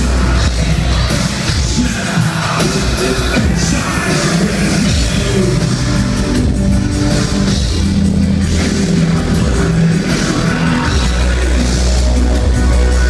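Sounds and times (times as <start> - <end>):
deep bass: 0.0 - 13.0
electro-industrial band playing live: 0.0 - 13.0.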